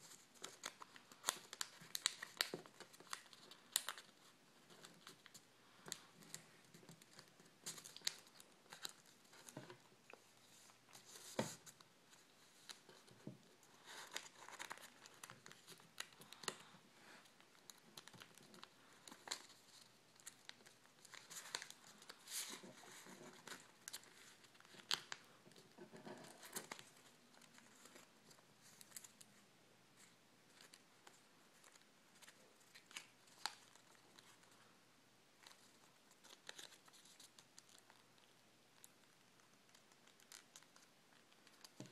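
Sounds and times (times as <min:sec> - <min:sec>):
sharp clicks of paper folds: 0:00.0 - 0:10.2, 0:10.9 - 0:16.7, 0:17.3 - 0:29.3, 0:35.4 - 0:41.9
paper rustling and crinkling: 0:00.0 - 0:29.4, 0:30.0 - 0:34.7, 0:35.4 - 0:39.0.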